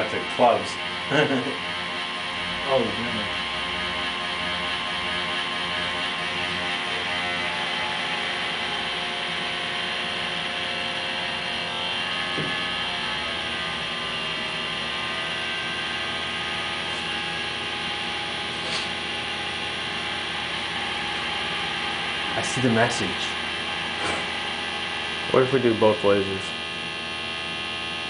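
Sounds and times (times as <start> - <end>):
machine whirring hum: 0.0 - 28.0.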